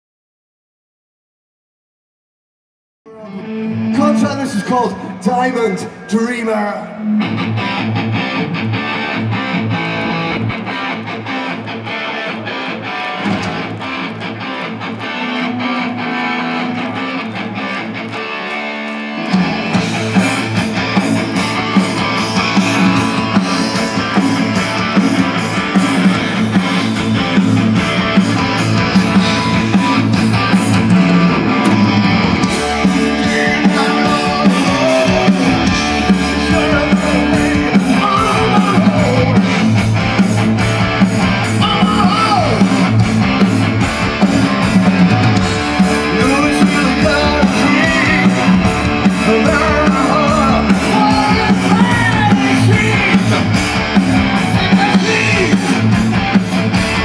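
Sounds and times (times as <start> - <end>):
electric guitar: 3.1 - 57.0
heavy metal band playing live: 3.1 - 57.0.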